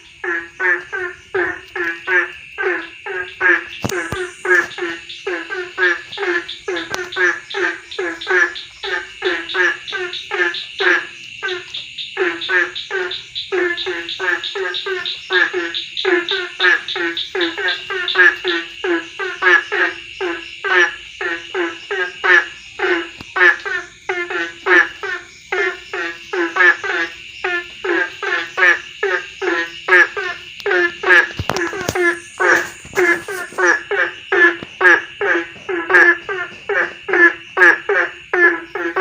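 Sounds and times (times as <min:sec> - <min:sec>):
frogs croaking in chorus: 0:00.0 - 0:39.0
high insect drone: 0:00.0 - 0:39.0.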